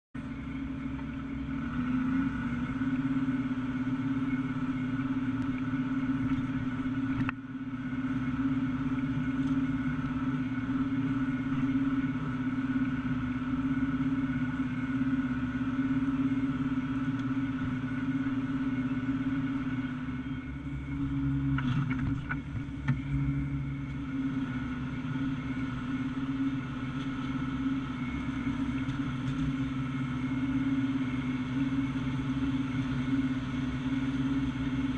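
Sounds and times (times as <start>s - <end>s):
tractor engine droning: 0.2s - 34.9s.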